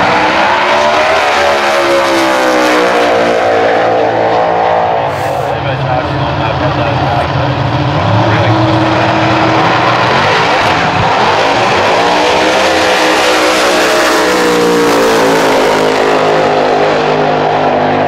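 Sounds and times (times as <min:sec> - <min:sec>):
racing car engine running hard: 0:00.0 - 0:18.0.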